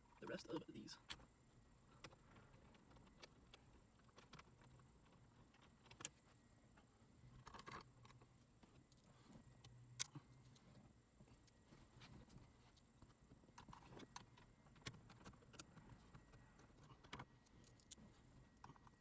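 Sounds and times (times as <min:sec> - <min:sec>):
faint clicks and taps: 0:01.0 - 0:19.0.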